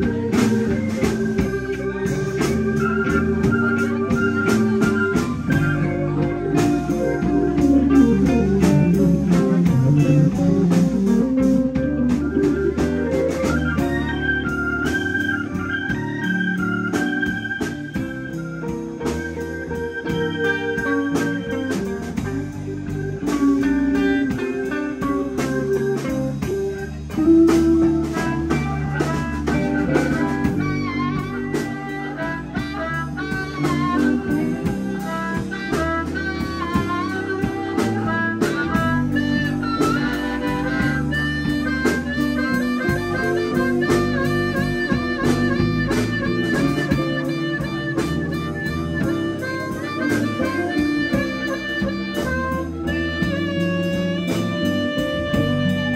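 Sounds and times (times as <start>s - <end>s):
blues band playing: 0.0s - 55.9s
harmonica solo: 0.0s - 55.9s.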